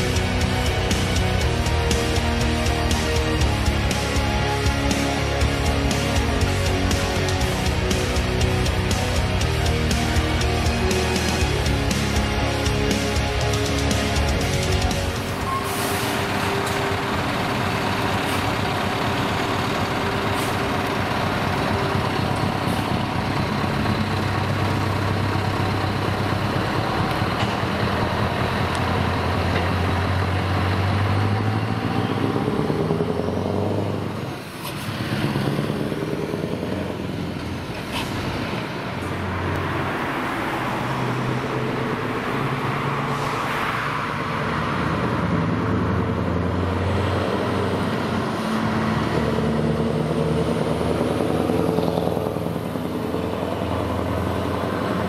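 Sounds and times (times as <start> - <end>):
diesel truck engine: 0.0 - 55.0.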